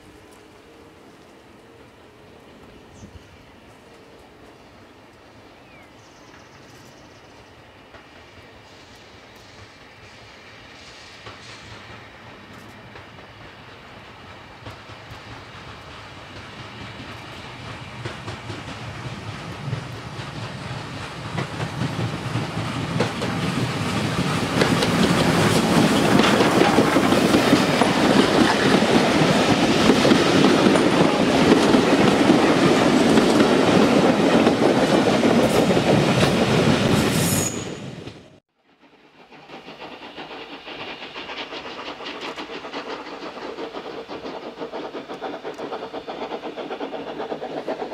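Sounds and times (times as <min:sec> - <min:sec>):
distant train: 0:00.0 - 0:47.9
steam train passing: 0:00.0 - 0:47.9.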